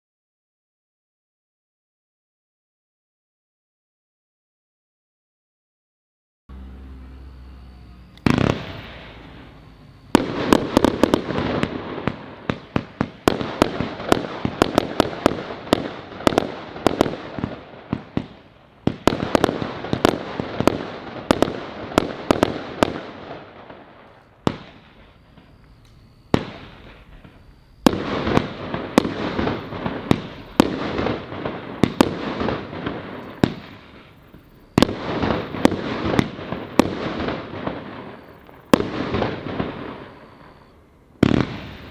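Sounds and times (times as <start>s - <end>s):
firework battery firing: 6.5s - 41.9s.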